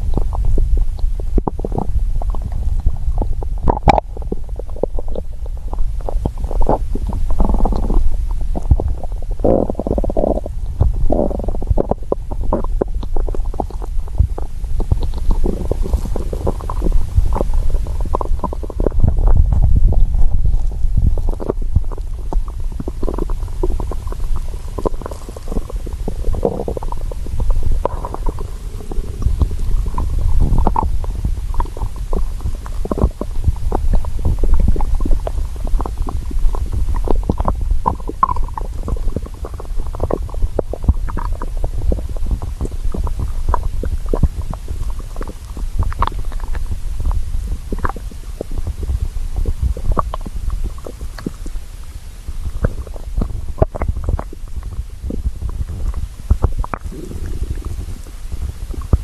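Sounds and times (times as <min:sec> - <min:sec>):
stomach growling and gurgling: 0:00.0 - 0:59.0.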